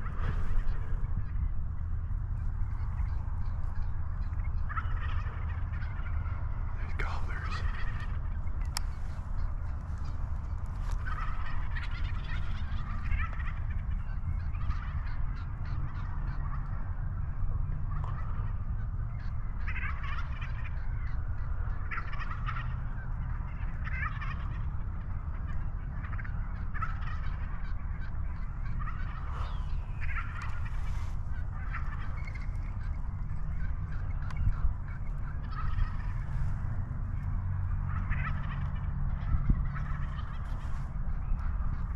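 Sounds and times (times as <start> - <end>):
turkeys gobbling: 0.0 - 41.9.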